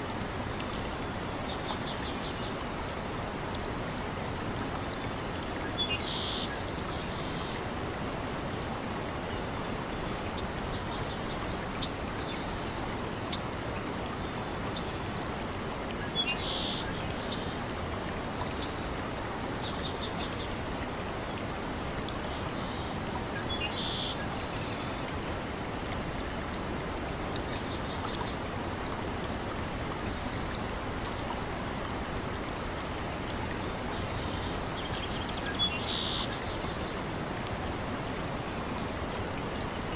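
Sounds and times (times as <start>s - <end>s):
running water and rain: 0.0s - 39.9s.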